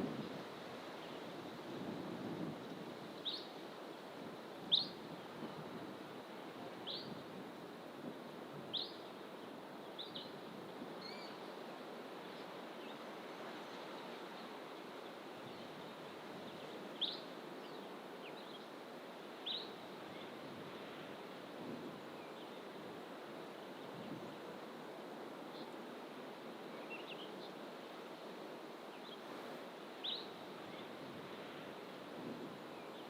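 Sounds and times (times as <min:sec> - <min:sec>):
low rush of background noise: 0:00.0 - 0:33.0.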